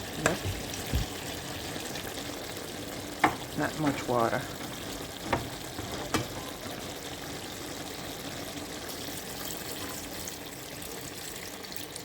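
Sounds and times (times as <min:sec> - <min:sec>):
water running from tap: 0:00.0 - 0:12.0.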